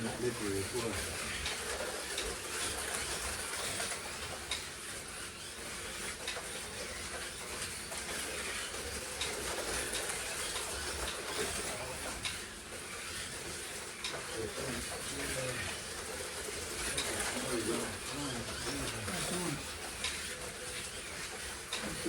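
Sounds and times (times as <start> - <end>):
slot cars whirring: 0.0 - 22.0.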